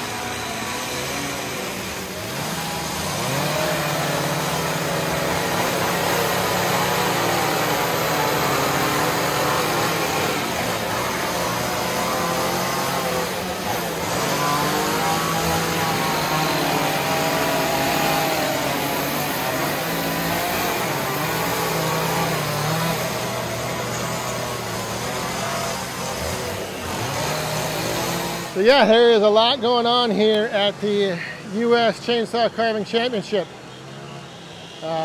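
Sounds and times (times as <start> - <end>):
chainsaws revving and cutting wood: 0.0 - 33.2.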